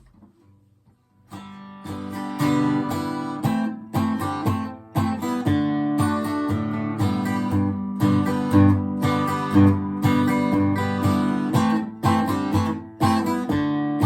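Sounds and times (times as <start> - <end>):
acoustic guitar strumming: 1.3 - 14.0.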